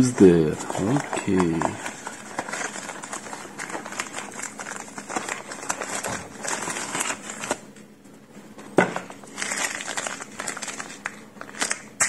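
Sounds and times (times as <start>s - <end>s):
packaging crinkling and rustling: 0.0s - 7.8s, 8.8s - 12.0s.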